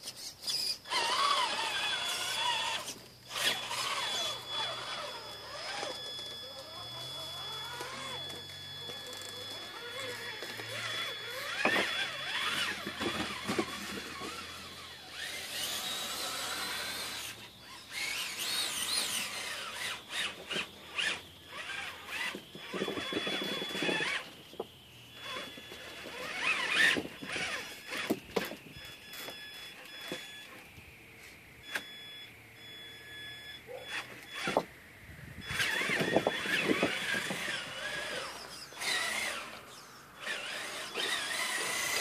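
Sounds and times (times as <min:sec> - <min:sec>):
electric motor whining: 0:00.1 - 0:42.0.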